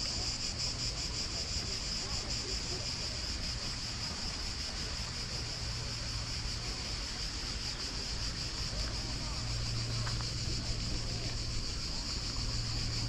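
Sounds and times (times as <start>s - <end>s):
high insect chorus: 0.0s - 13.0s.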